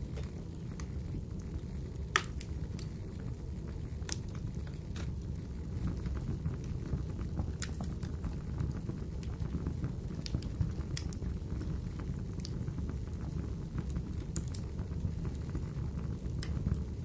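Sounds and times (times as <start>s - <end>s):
rainfall rumble: 0.0s - 17.0s
wood fire crackling and popping: 0.0s - 17.0s.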